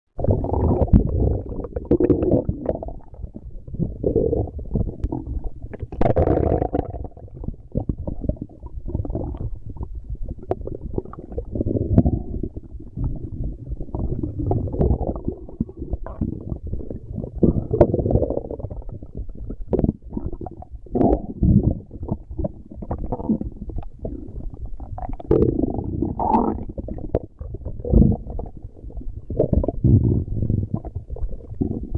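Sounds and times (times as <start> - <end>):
stomach growling: 0.2 - 31.9.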